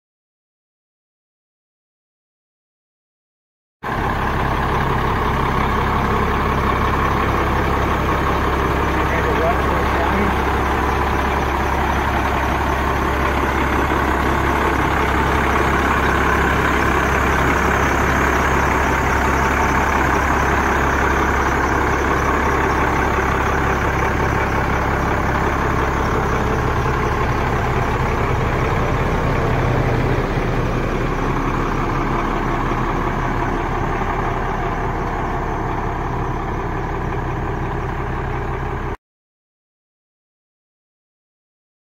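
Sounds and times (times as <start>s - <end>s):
diesel truck engine idling: 3.8s - 39.0s.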